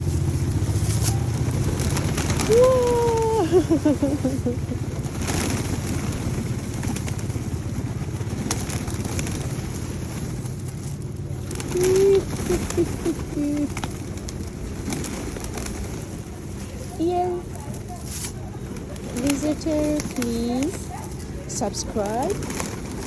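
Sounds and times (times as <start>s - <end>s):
low background noise: 0.0s - 23.0s
pigeons cooing: 0.0s - 23.0s.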